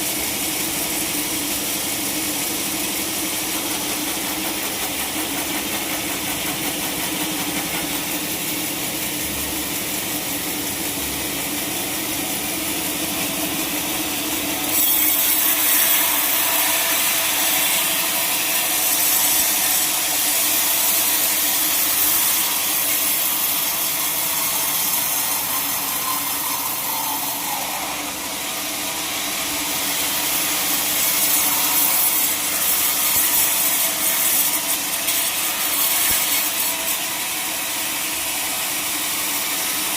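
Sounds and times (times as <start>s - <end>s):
saw cutting through log: 0.0s - 39.9s
sawmill saw humming: 0.0s - 39.9s.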